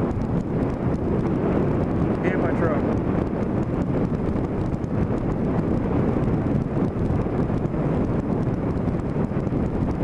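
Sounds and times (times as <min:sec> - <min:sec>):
motorcycle engine running: 0:00.0 - 0:10.0
wind on microphone: 0:00.0 - 0:10.0.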